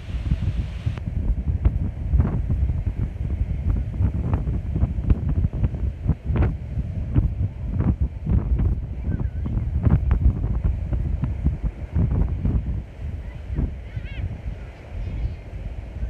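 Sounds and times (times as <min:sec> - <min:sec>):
sea waves washing in: 0:00.0 - 0:16.0
wind buffeting microphone: 0:00.0 - 0:16.0.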